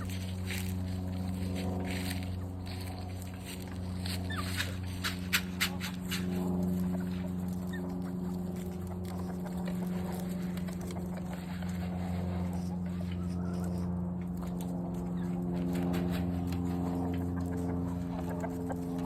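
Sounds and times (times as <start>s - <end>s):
chickens calling: 0.0s - 19.0s
steady low hum: 0.0s - 19.0s.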